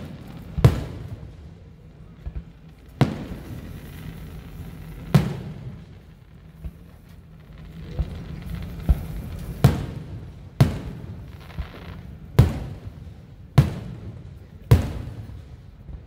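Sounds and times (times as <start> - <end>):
fireworks booming with echo: 0.0 - 16.0.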